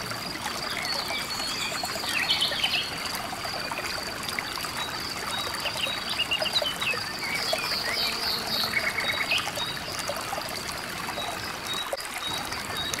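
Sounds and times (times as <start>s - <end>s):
river water running over rocks: 0.0s - 13.0s.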